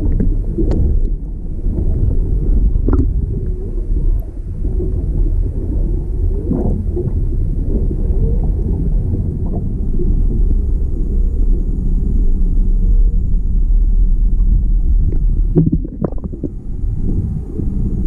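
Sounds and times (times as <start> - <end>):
muffled underwater water rumble: 0.0 - 18.0
underwater crackles and bubbling: 0.0 - 18.0.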